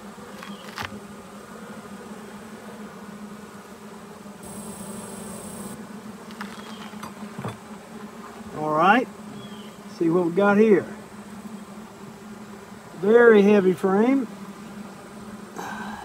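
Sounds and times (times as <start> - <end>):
honey bees humming: 0.0 - 16.0.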